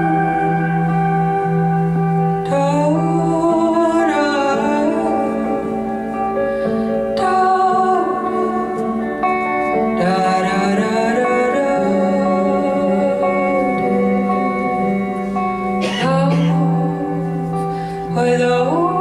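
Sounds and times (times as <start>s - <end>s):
electric guitar sustained notes: 0.0s - 19.0s.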